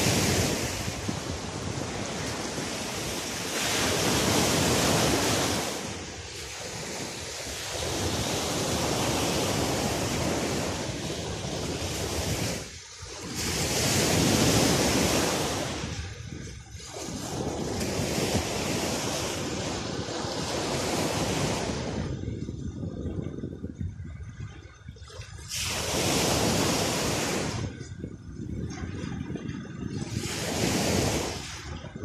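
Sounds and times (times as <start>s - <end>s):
sea waves breaking on sand: 0.0s - 22.4s, 25.2s - 28.0s, 28.8s - 32.0s
wind buffeting microphone: 0.0s - 32.0s.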